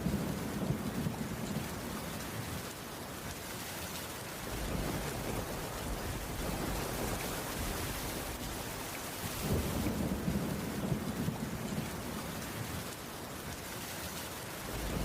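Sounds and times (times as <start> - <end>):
heavy rain on a wooden roof: 0.0 - 15.0.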